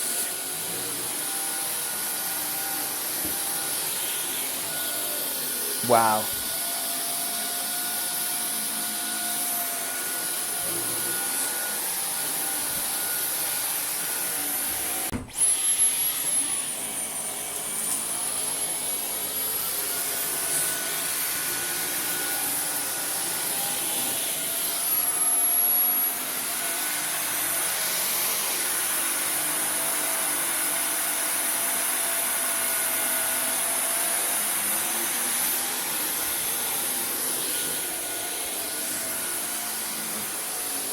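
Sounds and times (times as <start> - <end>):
vacuum cleaner motor whine: 0.0 - 40.9.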